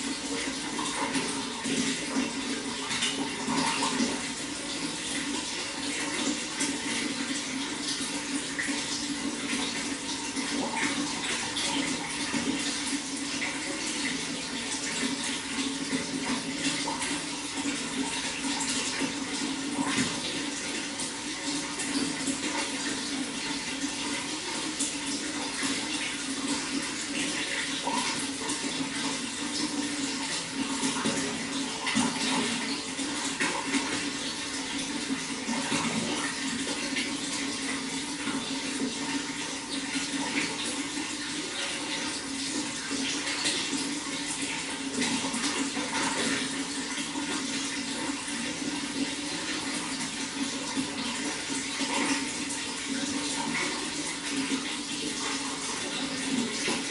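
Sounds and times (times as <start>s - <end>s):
running water splashing: 0.0s - 56.9s.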